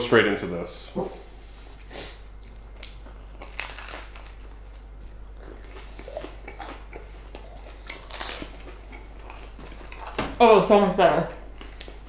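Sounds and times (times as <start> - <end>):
chewing crunchy bagel: 1.3 - 10.4, 11.4 - 12.0.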